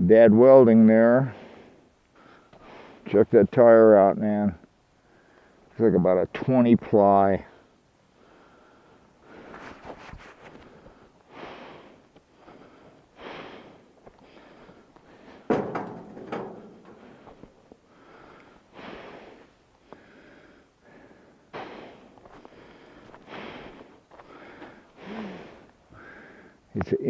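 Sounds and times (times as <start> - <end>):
person breathing: 1.3 - 3.1, 5.0 - 5.7, 7.4 - 26.7.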